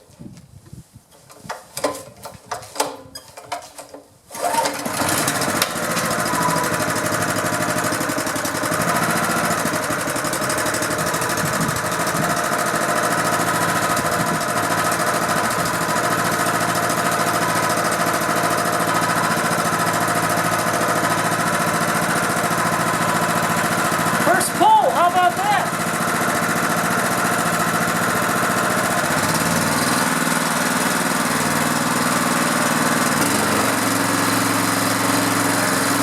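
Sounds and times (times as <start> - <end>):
recoil starter pull: 1.3 - 36.0
small engine running: 4.3 - 36.0.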